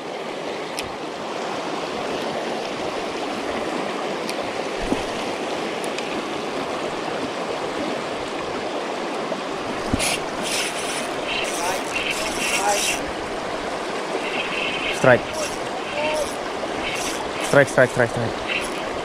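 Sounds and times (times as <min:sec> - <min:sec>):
river rapids rushing over rocks: 0:01.1 - 0:19.0.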